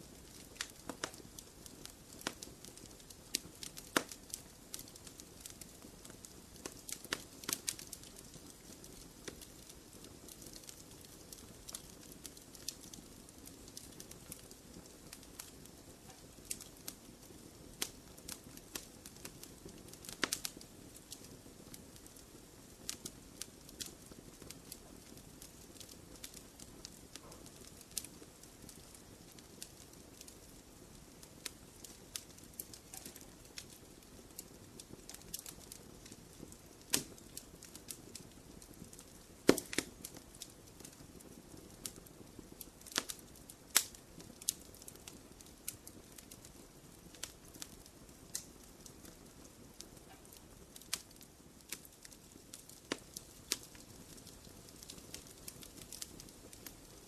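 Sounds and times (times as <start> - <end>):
fire popping and snapping: 0.0 - 57.0
flames rushing: 0.1 - 48.5, 49.8 - 57.0.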